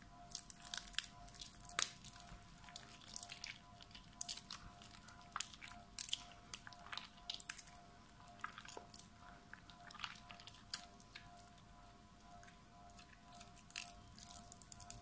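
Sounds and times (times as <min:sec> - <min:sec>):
wet soap squishing by hand: 0:00.3 - 0:15.0.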